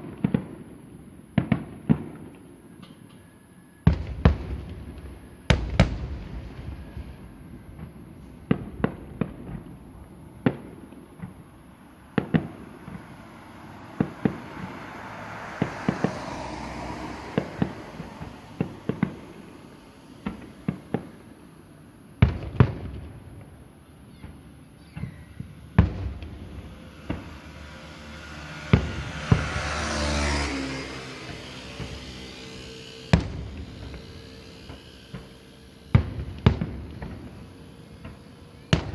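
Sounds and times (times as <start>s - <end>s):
fireworks shells bursting: 3.9s - 30.0s, 30.7s - 38.9s
fireworks hissing: 3.9s - 38.9s.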